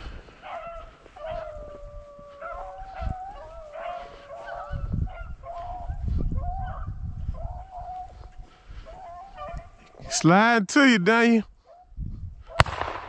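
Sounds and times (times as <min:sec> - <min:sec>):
hounds baying and howling: 0:00.0 - 0:10.1, 0:11.6 - 0:12.0.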